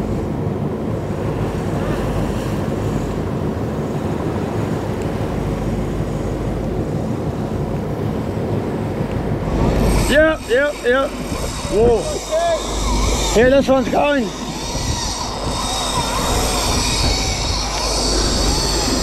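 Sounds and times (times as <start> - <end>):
boat engine drone: 0.0 - 19.0
churned sea water rushing: 0.0 - 19.0
wind buffeting microphone: 0.0 - 19.0.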